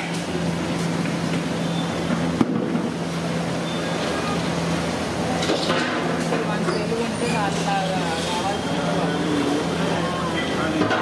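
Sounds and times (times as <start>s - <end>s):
oil sizzling deep-frying: 0.0s - 10.9s.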